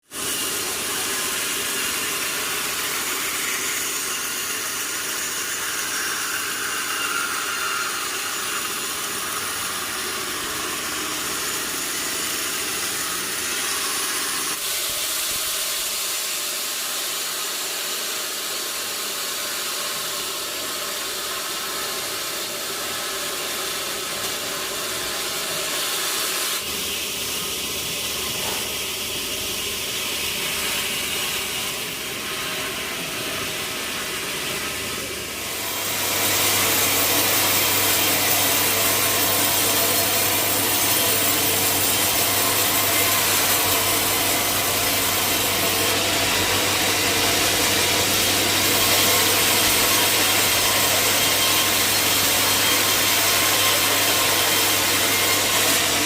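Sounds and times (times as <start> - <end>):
sawmill saw running: 0.0 - 56.0.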